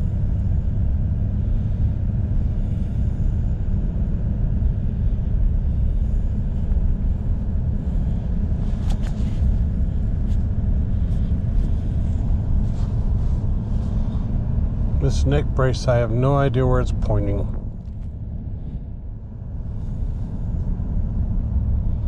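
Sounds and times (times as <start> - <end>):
pickup truck rumble from cab: 0.0 - 22.0.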